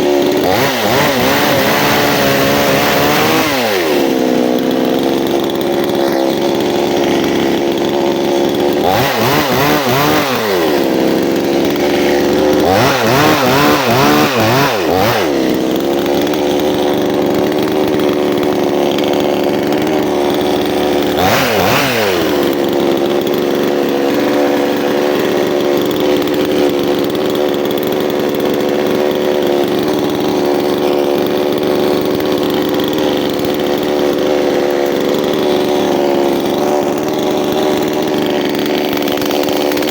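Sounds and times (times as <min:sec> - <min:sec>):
chainsaw running at high speed: 0:00.0 - 0:39.9.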